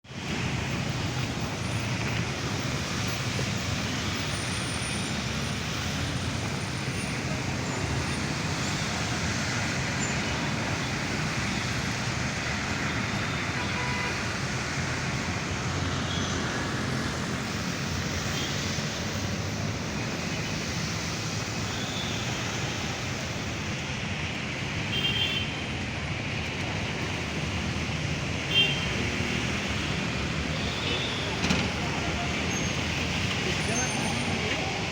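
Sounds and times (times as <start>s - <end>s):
city traffic on wet roads: 0.0s - 34.9s.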